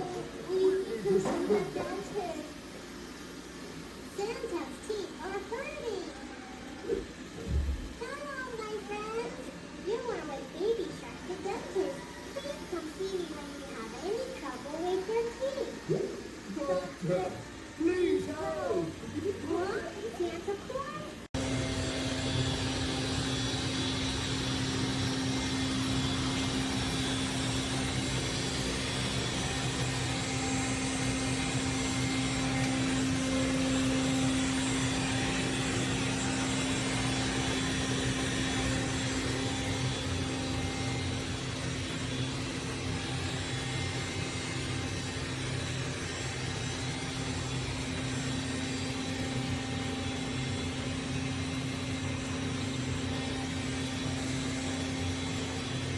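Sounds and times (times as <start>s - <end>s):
robot vacuum whirring: 0.0s - 55.9s.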